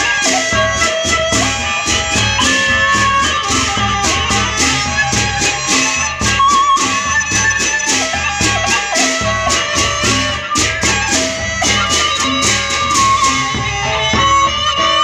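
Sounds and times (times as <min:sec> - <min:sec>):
hand cymbals clashing: 0:00.0 - 0:13.6
barrel drums beaten with sticks: 0:00.0 - 0:14.5
wavering bamboo flute melody: 0:00.0 - 0:15.0.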